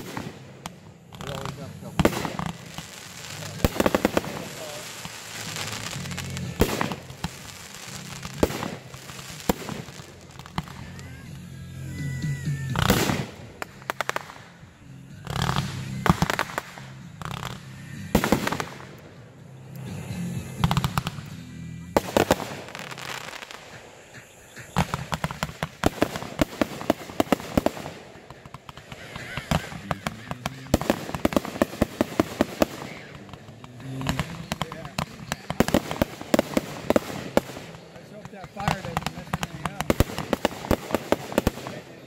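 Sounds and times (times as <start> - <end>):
fireworks launch and burst bangs: 0.0 - 11.4, 12.1 - 42.0
fireworks crackling and popping: 0.0 - 42.0.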